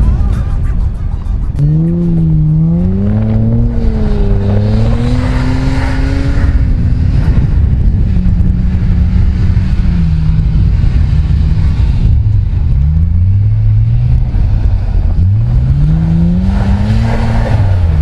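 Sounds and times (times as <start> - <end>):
car engine revving high: 1.6 - 18.0.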